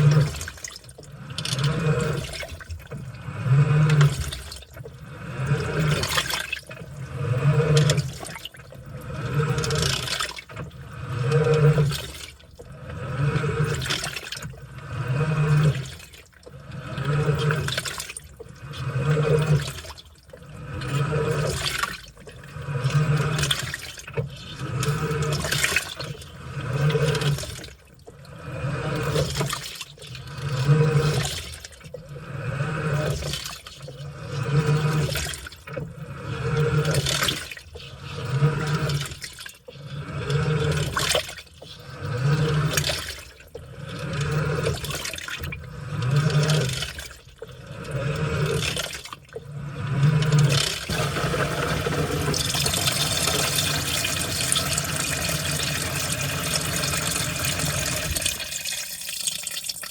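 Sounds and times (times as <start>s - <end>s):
low motor hum: 0.0s - 58.7s
washing machine sloshing: 0.0s - 59.9s.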